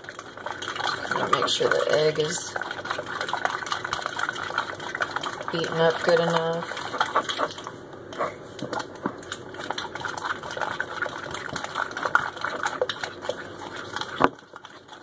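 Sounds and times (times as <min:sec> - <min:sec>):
utensil beating batter in bowl: 0:00.0 - 0:15.0.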